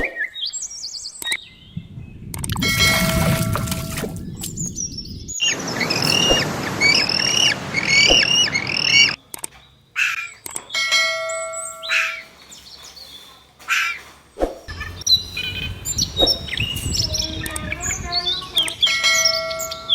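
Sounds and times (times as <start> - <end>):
bird chirping: 0.0 - 3.2, 4.2 - 14.0, 14.7 - 19.9.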